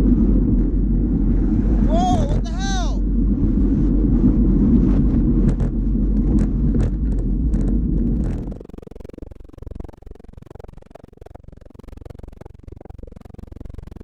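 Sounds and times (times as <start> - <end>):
wind and road rumble: 0.0 - 14.0.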